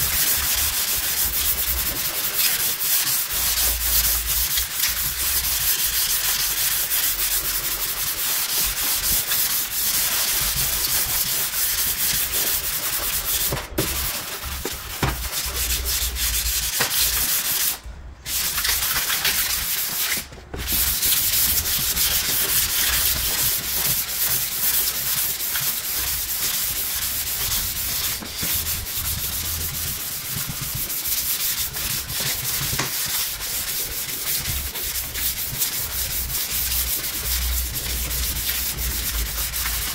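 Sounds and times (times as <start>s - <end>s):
sandpaper rubbing on car paint: 0.0s - 39.9s.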